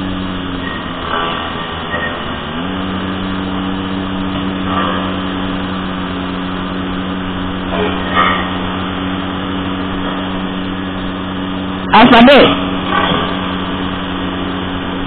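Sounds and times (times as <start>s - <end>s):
motorbike engine running: 0.0s - 15.0s
road and wind noise: 0.0s - 15.0s.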